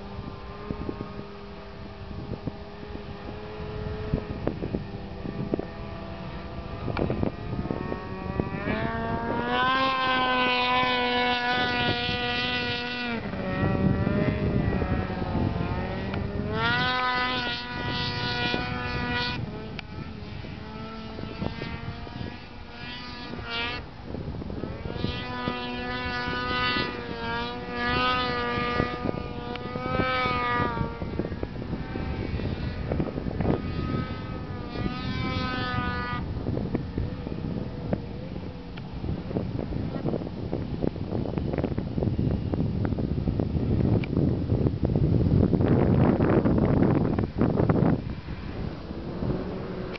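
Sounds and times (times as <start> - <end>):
snowmobile engines revving: 0.0 - 42.6, 45.5 - 49.9.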